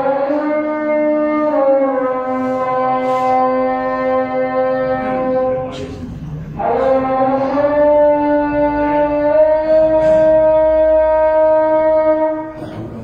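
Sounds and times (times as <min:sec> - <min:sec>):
man chanting call to prayer: 0:00.0 - 0:13.0.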